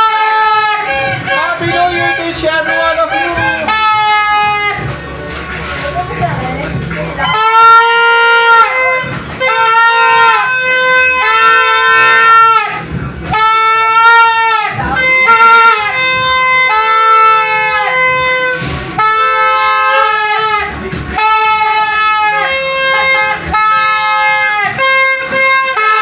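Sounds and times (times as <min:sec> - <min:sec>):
toy party horns blowing: 0:00.0 - 0:26.0.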